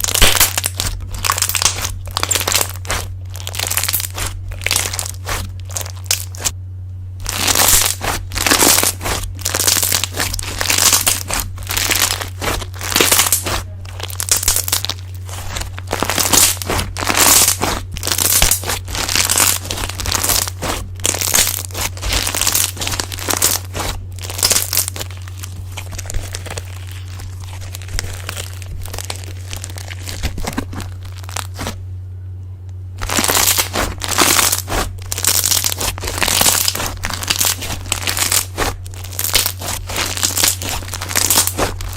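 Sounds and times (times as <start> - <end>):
slime crackling and popping: 0.0 - 6.6, 7.2 - 31.8, 33.0 - 41.9.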